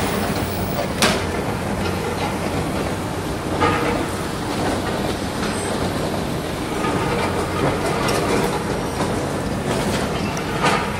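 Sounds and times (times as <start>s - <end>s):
train rushing past: 0.0s - 10.9s.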